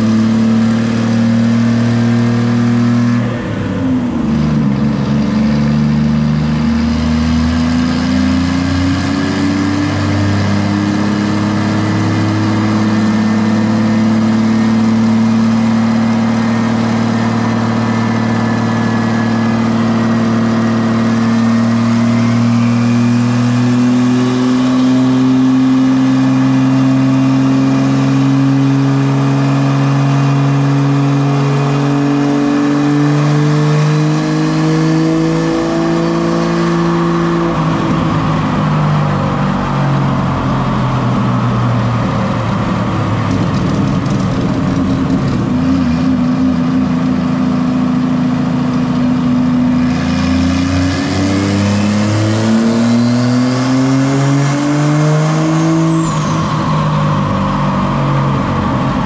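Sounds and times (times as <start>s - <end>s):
car engine revving on dyno: 0.0s - 59.0s.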